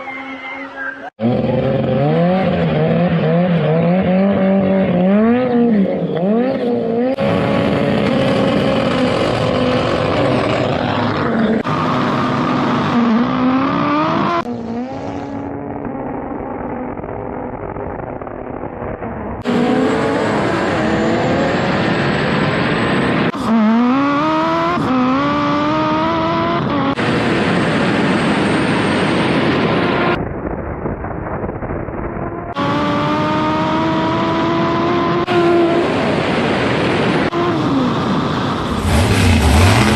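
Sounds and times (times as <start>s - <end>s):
car engines accelerating hard: 0.0s - 30.2s, 32.2s - 39.9s.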